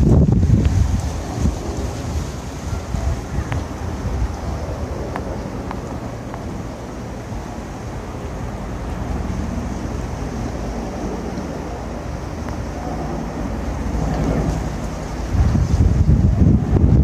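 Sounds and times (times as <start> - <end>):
helicopter rotors and engines: 0.0 - 17.0
wind on microphone: 0.0 - 17.0.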